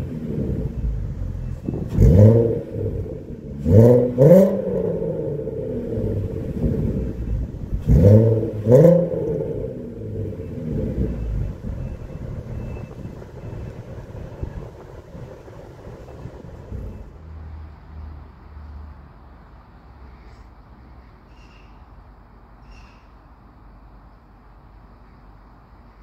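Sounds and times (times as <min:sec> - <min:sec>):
car engine idling and revving: 0:00.0 - 0:21.7.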